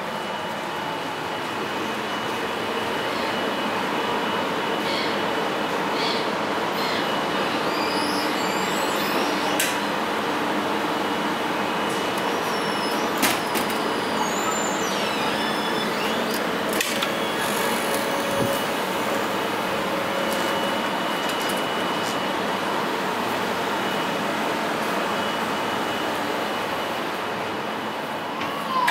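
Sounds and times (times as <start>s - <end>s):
rushing hum of station: 0.0s - 28.9s.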